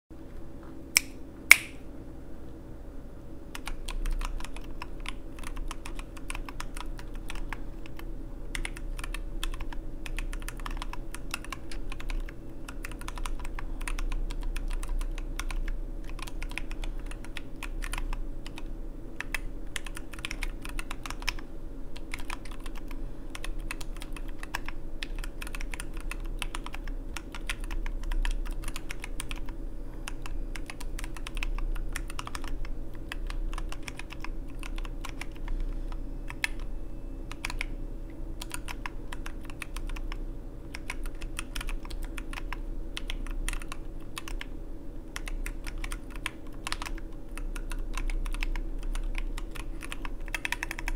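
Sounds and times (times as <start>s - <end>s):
mechanical keyboard typing: 3.5s - 21.4s, 22.0s - 36.7s, 37.3s - 37.7s, 38.4s - 44.5s, 45.1s - 50.9s.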